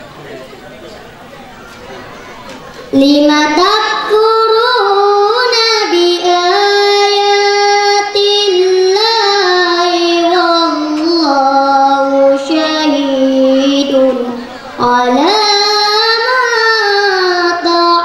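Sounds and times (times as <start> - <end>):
boy reciting melodically: 2.0 - 18.0.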